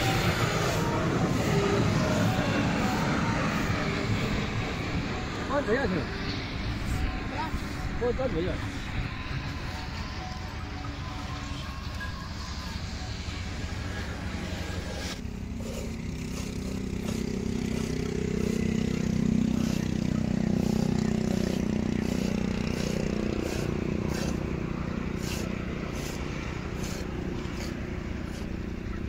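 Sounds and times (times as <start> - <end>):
low engine drone: 0.0 - 29.0.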